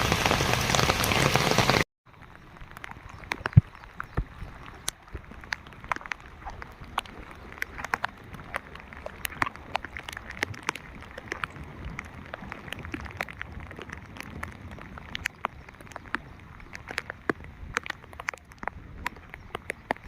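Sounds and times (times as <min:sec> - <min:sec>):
rain falling: 0:00.0 - 0:20.0
sharp raindrop hits: 0:00.0 - 0:20.0.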